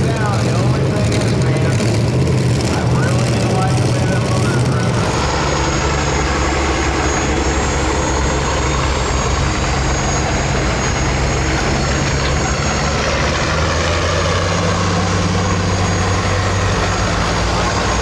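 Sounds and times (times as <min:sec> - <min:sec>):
high engine whine: 0:00.0 - 0:18.0
pulling tractor engines droning: 0:00.0 - 0:18.0.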